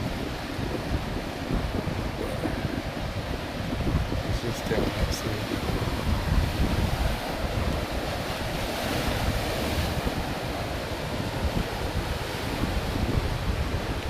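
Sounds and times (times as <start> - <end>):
waves washing onto rocks: 0.0 - 14.0
wind buffeting microphone: 0.0 - 14.0.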